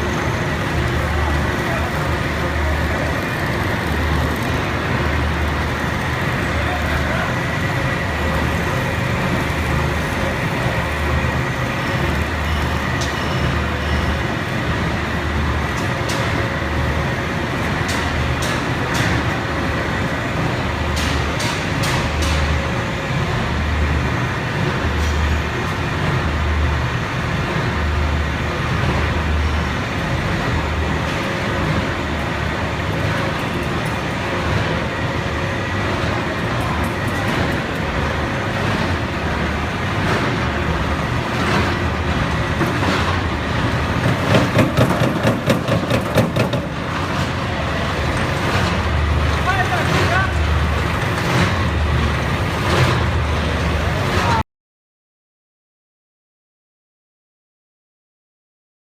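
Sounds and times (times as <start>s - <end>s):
machinery clicks and clatter: 0.0s - 54.4s.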